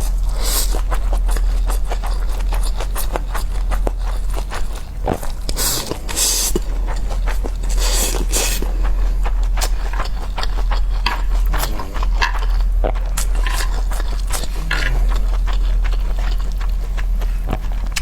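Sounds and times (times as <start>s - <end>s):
person chewing and crunching: 0.0s - 18.0s
steady low hum: 0.0s - 18.0s.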